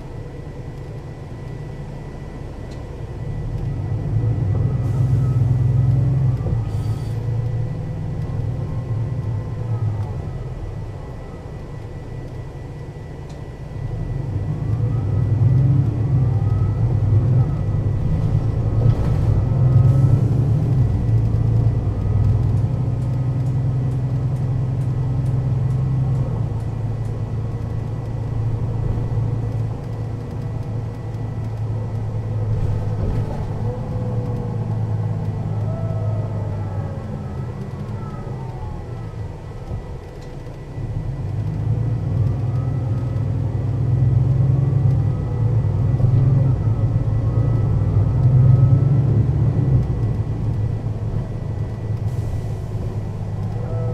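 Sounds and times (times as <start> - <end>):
bus diesel engine pulling hard: 0.0 - 53.9
gearbox whine: 0.0 - 53.9.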